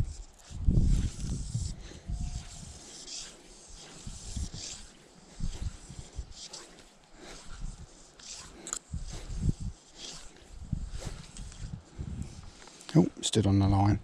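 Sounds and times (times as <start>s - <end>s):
fly line swishing through air: 0.0s - 12.8s.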